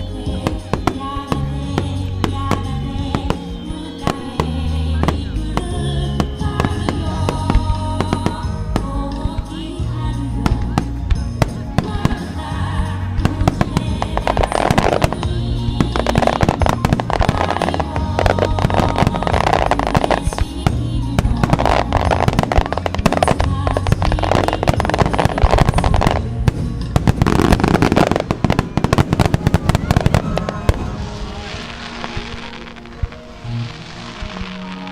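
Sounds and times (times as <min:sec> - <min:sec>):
fireworks bursting and crackling: 0:00.0 - 0:34.9
music over loudspeakers: 0:00.0 - 0:34.9.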